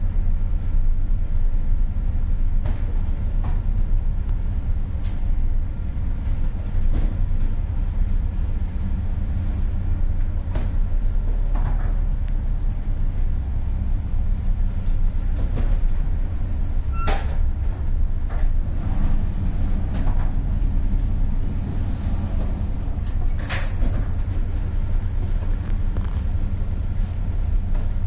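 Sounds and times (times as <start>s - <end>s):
low rumble aboard a ship: 0.0s - 28.0s.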